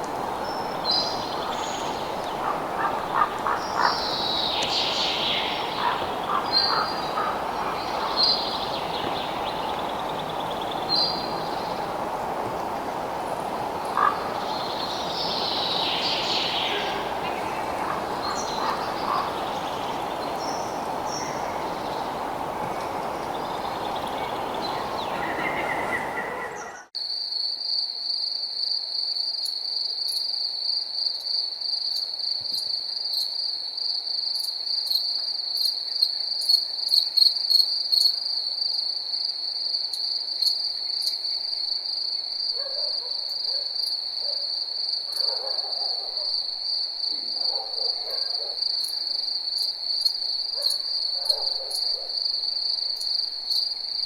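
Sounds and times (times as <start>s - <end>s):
crickets chirring: 0.0s - 54.0s
lower insect calls: 0.0s - 54.0s
outdoor ambience: 0.0s - 54.0s.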